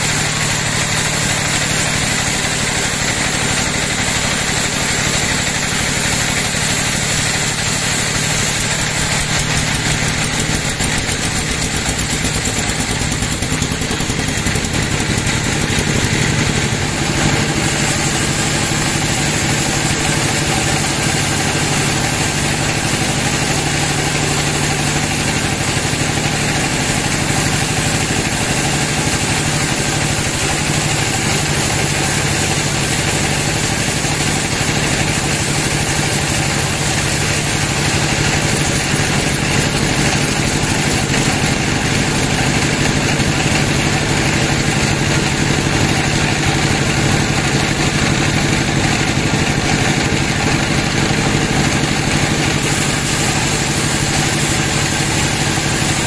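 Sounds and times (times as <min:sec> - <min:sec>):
band saw cutting timber: 0:00.0 - 0:56.0.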